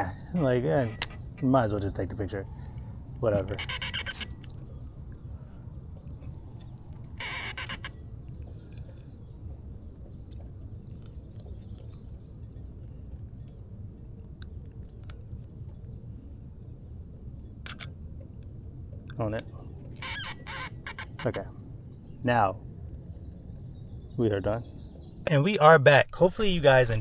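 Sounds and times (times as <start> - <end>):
insects high-pitched tone: 0.0 - 26.0.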